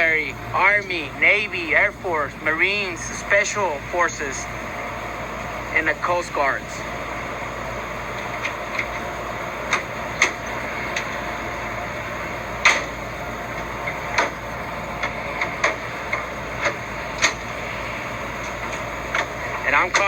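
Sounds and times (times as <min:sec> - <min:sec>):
background hiss and hum: 0:00.0 - 0:20.0.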